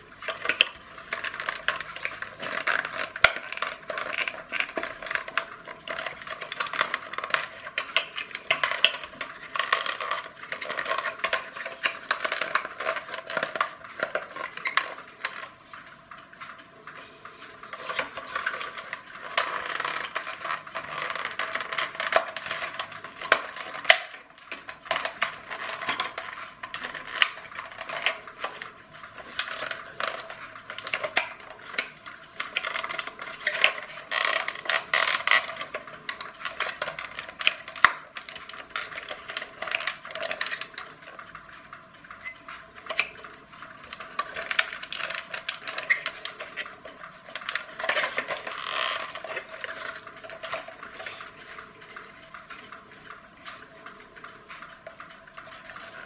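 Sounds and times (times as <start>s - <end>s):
plastic parts clicking and rattling: 0.0s - 56.0s.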